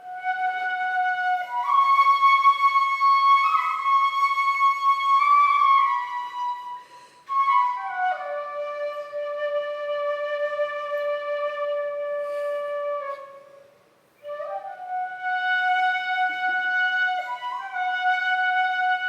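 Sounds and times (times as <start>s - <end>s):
bamboo flute melody: 0.0s - 19.0s.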